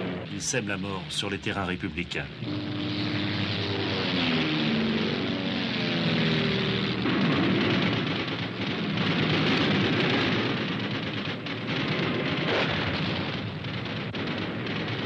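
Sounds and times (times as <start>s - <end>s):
rumble of explosions: 0.0s - 15.0s
sharp explosion burst: 0.0s - 15.0s.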